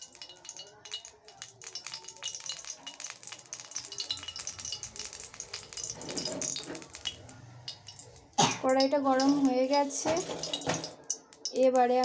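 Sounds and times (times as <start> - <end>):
oil crackling and popping: 0.0 - 12.0.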